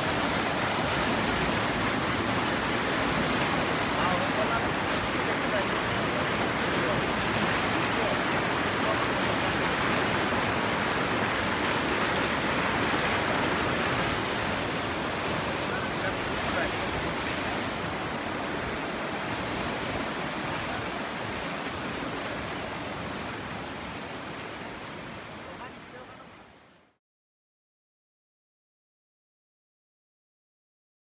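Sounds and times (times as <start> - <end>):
floodwater rushing: 0.0 - 26.8.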